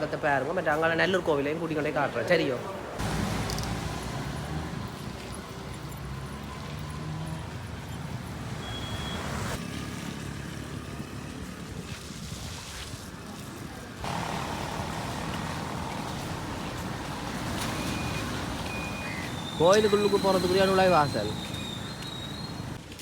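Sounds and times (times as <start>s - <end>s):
passing traffic: 0.0s - 23.0s.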